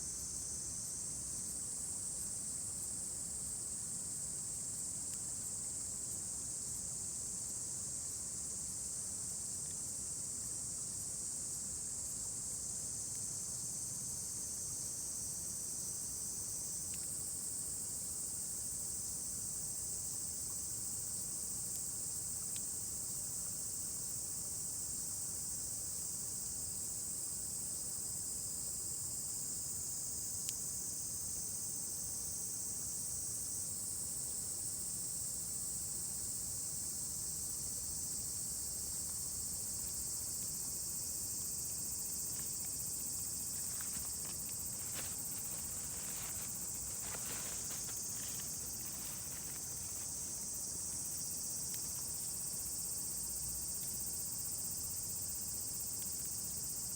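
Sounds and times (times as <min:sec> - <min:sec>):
chorus of insects: 0:10.9 - 0:56.9.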